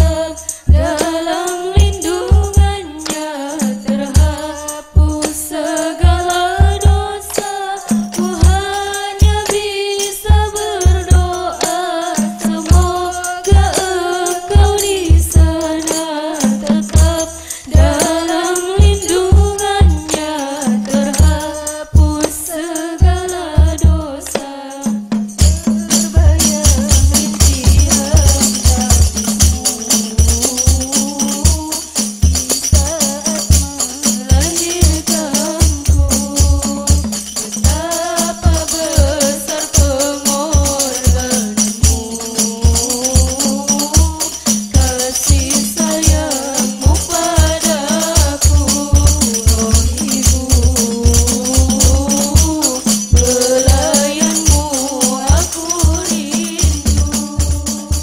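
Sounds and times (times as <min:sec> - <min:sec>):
frame drums: 0:00.0 - 0:58.0
girls singing: 0:00.0 - 0:58.0
tambourine jingles: 0:00.0 - 0:58.0.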